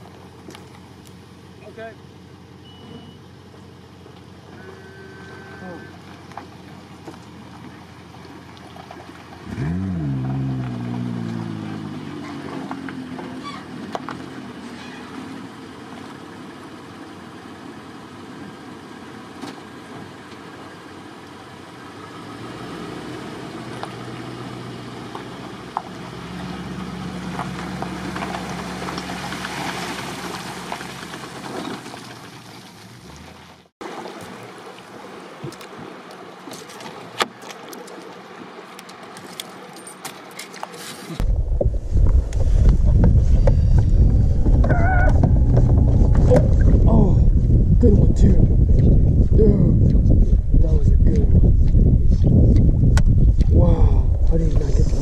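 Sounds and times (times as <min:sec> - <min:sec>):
vehicle engine running: 0:00.0 - 0:33.7, 0:41.0 - 0:55.0.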